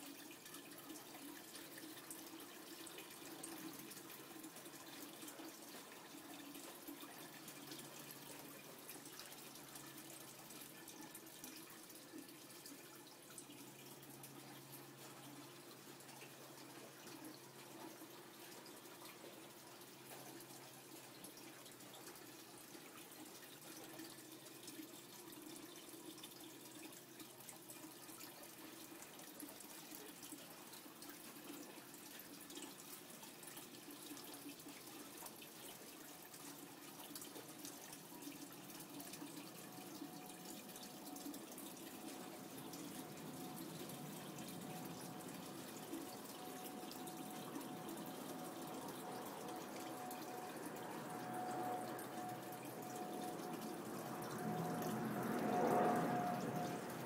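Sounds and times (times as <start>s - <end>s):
faint steady hum: 0.0s - 57.0s
running and dripping water: 0.0s - 57.0s.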